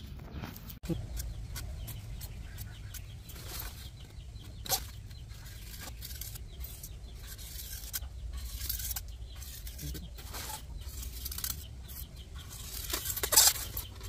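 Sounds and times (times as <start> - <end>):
blade cutting foam: 0.9 - 13.9.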